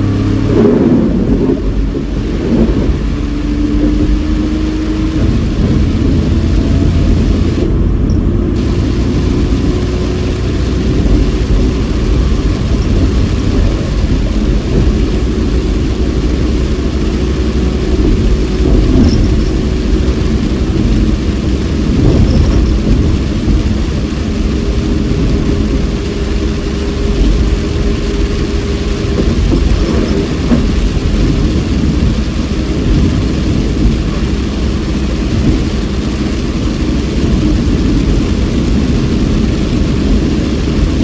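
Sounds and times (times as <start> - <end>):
car engine and tyres on wet road: 0.0 - 41.0
rain hiss: 0.0 - 41.0.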